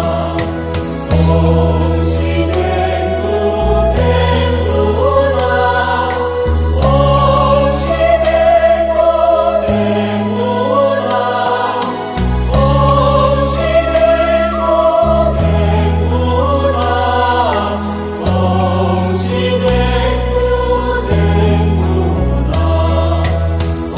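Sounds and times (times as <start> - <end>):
choir singing a hymn: 0.0 - 23.9
low held accompaniment notes: 0.0 - 23.9.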